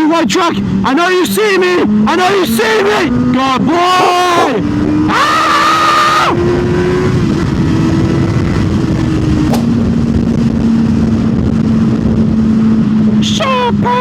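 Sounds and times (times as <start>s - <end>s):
motorcycle engine cruising: 0.0s - 14.0s
wind noise: 0.0s - 14.0s.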